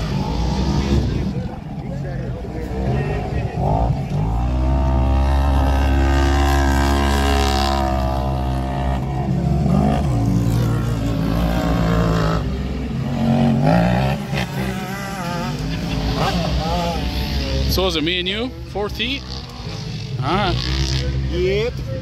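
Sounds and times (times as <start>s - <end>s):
utility vehicle engine revving: 0.0s - 22.0s.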